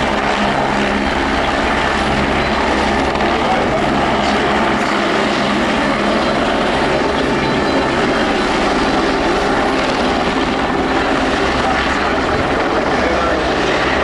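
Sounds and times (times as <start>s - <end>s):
helicopter rotors and engines: 0.0s - 14.0s.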